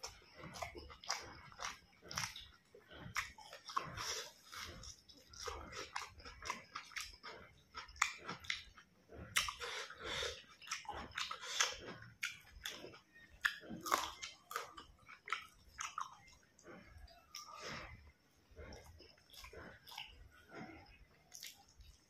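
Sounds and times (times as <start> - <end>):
person chewing and biting food: 0.0 - 22.0.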